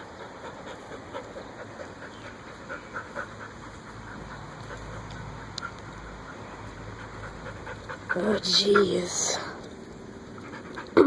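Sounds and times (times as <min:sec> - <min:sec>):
dog panting fast: 0:00.0 - 0:11.0.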